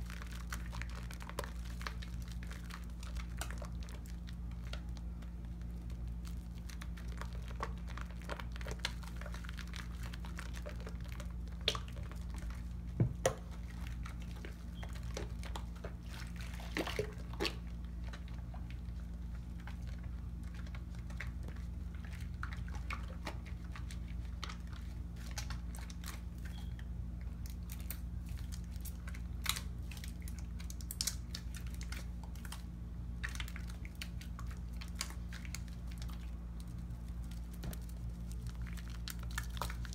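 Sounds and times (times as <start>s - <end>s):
soap lather squishing: 0.0s - 39.9s.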